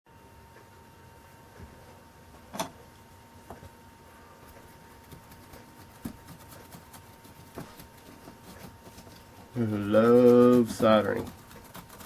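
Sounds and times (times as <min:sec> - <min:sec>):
thin steady whine: 0:00.1 - 0:12.0.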